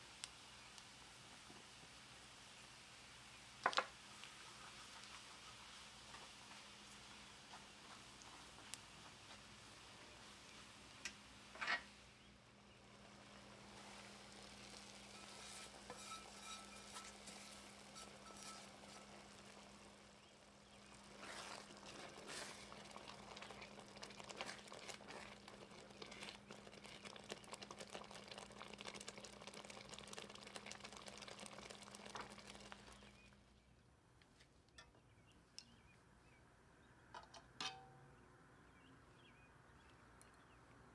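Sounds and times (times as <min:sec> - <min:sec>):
food frying in a pan: 0:00.0 - 0:33.3.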